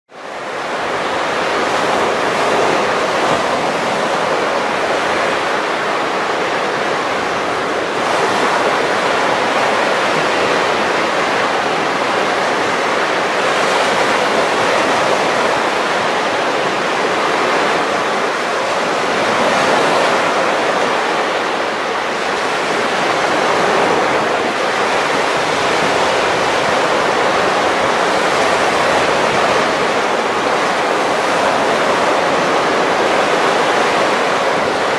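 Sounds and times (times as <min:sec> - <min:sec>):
surf breaking on beach: 0:00.2 - 0:34.9.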